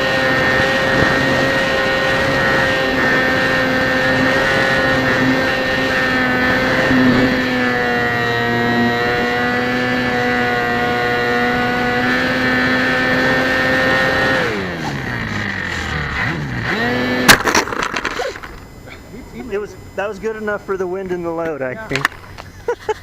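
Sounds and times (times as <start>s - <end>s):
electric motor and propeller running: 0.0s - 23.0s.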